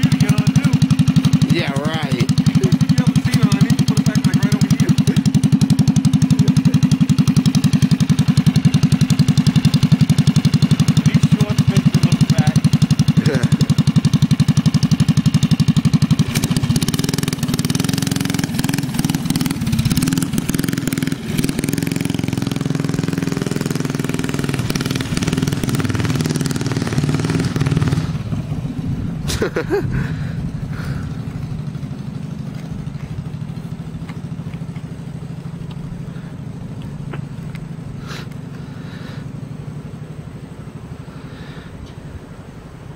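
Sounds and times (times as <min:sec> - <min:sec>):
small engine running: 0:00.0 - 0:41.7.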